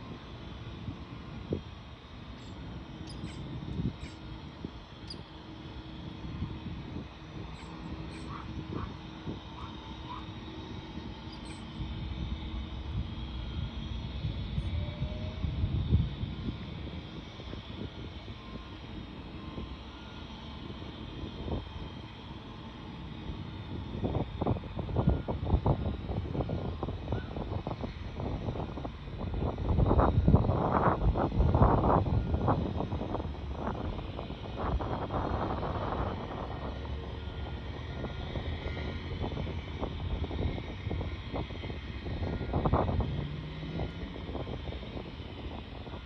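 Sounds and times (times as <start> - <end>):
outdoor rumble and hiss: 0.0 - 46.0
wind buffeting microphone: 0.0 - 46.0.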